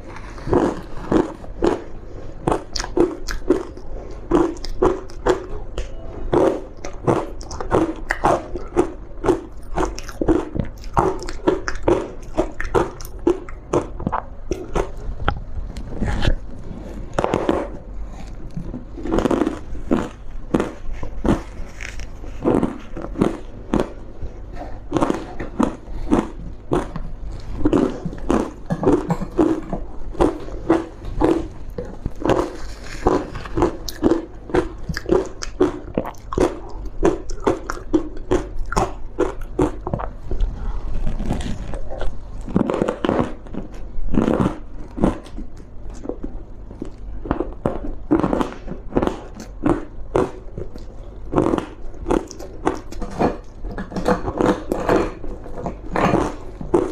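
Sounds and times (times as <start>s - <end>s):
crunchy ice chewing: 0.0s - 56.9s.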